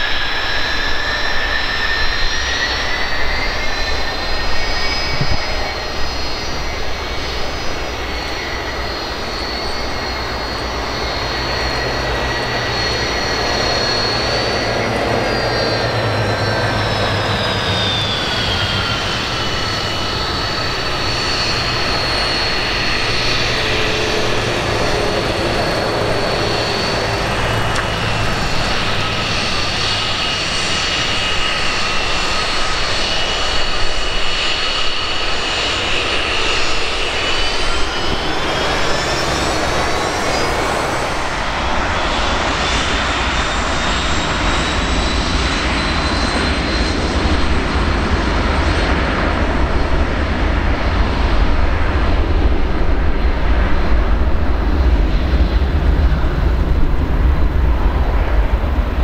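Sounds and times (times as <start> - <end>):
jet airliner taxiing with whine: 0.0 - 59.0.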